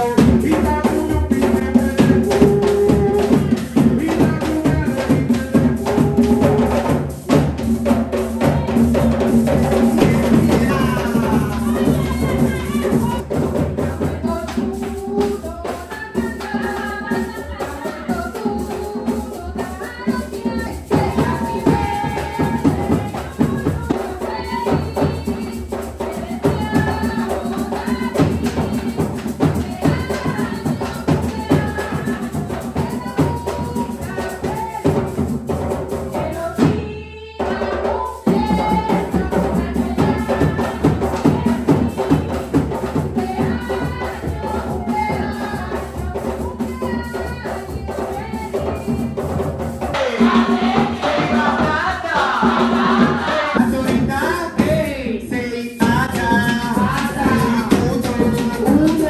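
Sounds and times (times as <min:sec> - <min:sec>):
hand drums and shakers: 0:00.0 - 0:59.0
people singing: 0:00.0 - 0:59.0.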